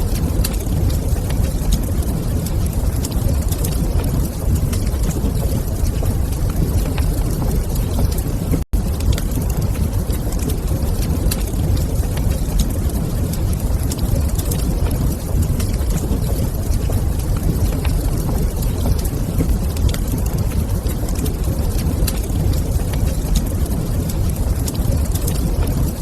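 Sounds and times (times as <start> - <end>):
fire low rumble: 0.0 - 26.0
wood fire snaps and pops: 0.0 - 26.0.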